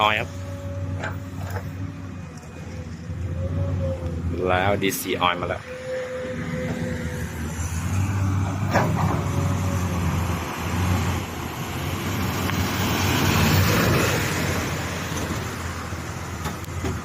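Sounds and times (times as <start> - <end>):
tanker truck passing: 0.0 - 17.0.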